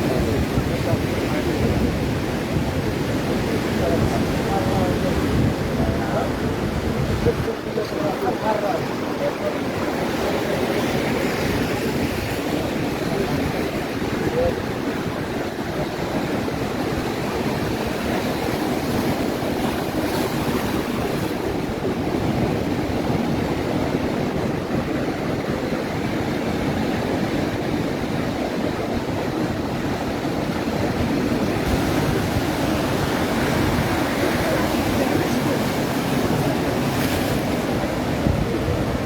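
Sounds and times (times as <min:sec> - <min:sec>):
ocean surf breaking: 0:00.0 - 0:39.0
wind rumbling on microphone: 0:00.0 - 0:39.0.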